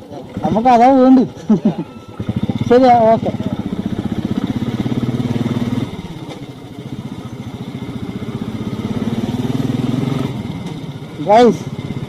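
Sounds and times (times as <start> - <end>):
motorcycle engine thumping: 2.1 - 12.0.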